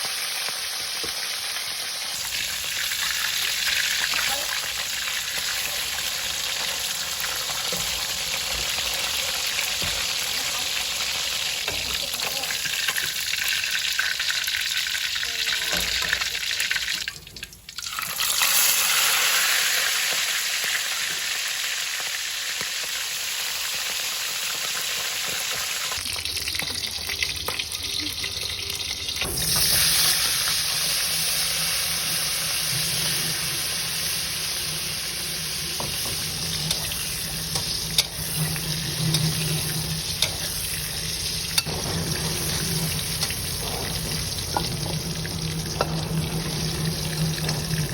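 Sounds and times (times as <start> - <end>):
fish sizzling in hot oil: 0.0 - 47.9.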